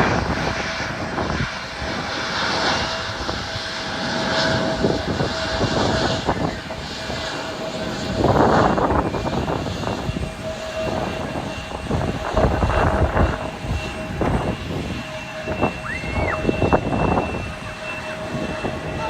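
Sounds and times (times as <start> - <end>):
jet engines whining and rumbling: 0.0 - 19.0.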